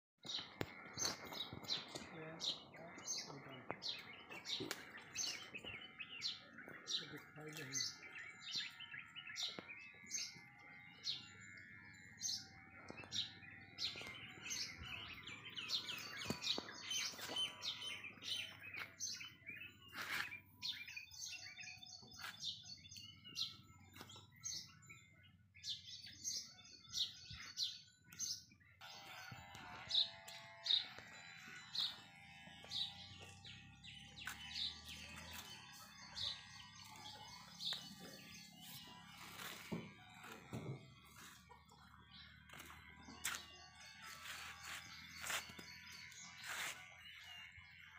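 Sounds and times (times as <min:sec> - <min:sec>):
small birds chirping: 0:00.2 - 0:47.9.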